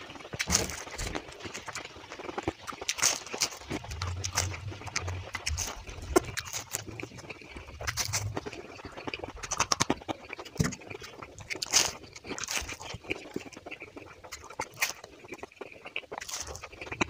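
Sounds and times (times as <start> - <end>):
chewing pastry crunches: 0.0 - 17.0
wet mouth clicks: 0.1 - 17.0.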